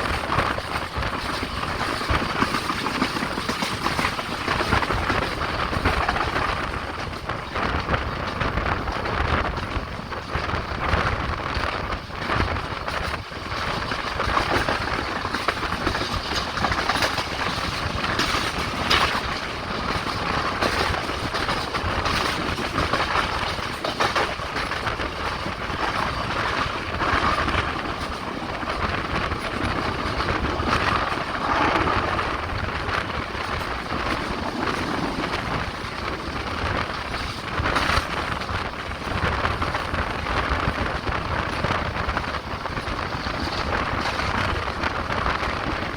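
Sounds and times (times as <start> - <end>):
train rumble and air rush: 0.0 - 45.9
wheels clacking over rail joints: 0.0 - 45.9.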